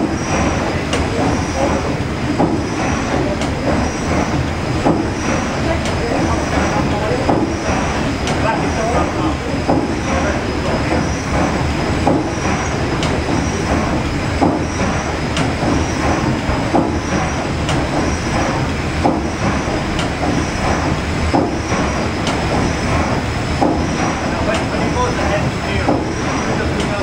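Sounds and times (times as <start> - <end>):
regular engine knock: 0.0 - 27.0
steam engine running: 0.0 - 27.0.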